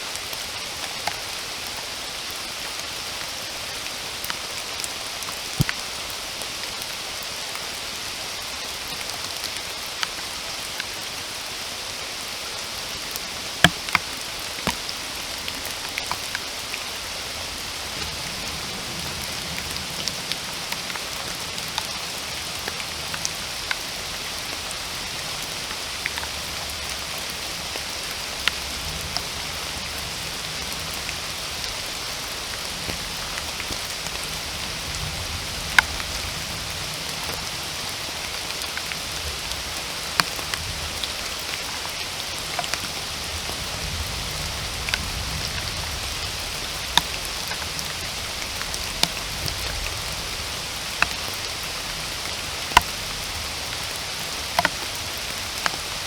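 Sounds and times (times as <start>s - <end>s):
close raindrops striking: 0.0s - 56.0s
steady rain hiss: 0.0s - 56.0s.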